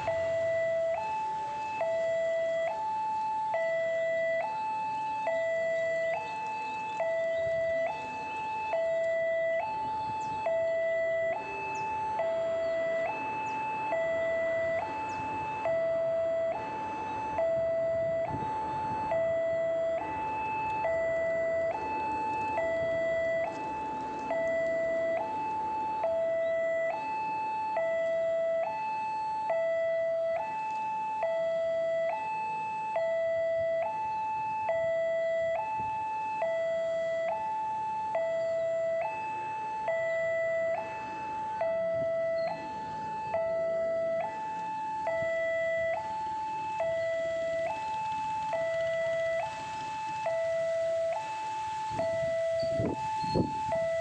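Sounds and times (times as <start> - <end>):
level crossing two-tone alarm: 0.0 - 54.0.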